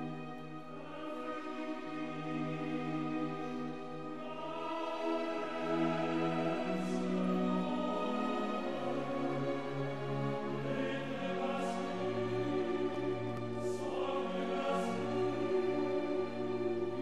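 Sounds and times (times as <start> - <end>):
choir singing opera-style: 0.0 - 17.0
musical accompaniment: 0.0 - 17.0.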